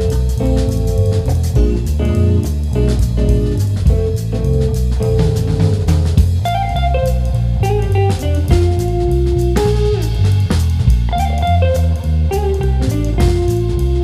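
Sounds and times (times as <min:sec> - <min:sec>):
bass line: 0:00.0 - 0:14.0
drum kit beat: 0:00.0 - 0:14.0
guitar: 0:00.0 - 0:14.0.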